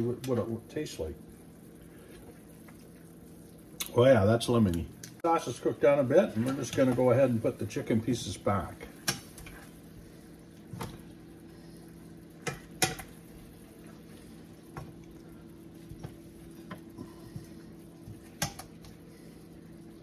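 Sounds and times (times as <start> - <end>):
sauce simmering in a frying pan: 0.0 - 20.0
steady low hum: 0.0 - 20.0.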